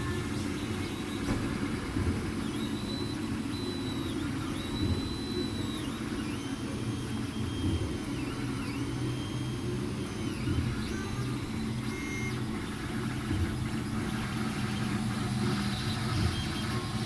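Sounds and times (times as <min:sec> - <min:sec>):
low machine hum: 0:00.0 - 0:17.0
stepper motors whining: 0:00.0 - 0:17.0.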